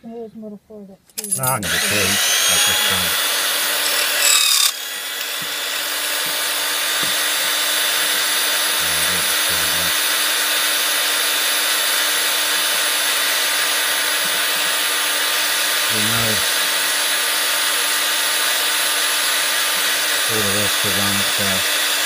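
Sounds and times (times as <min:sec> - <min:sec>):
cutter milling a key: 0:01.2 - 0:22.0
key duplicator motor humming: 0:01.2 - 0:22.0.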